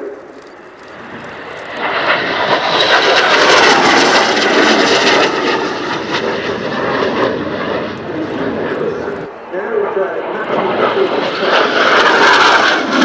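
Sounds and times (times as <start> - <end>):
jet engine crackling roar: 0.0 - 13.0.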